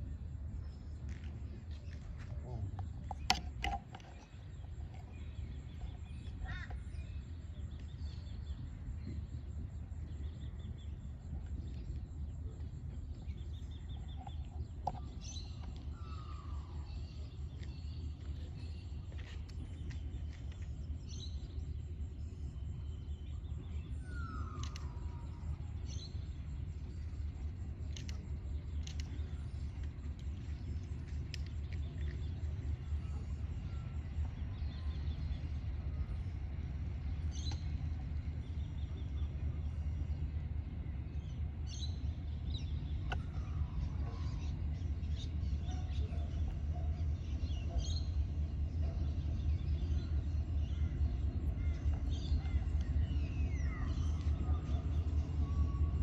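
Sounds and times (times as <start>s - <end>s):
steady low rumble: 0.0s - 56.0s
birds chirping: 0.1s - 56.0s.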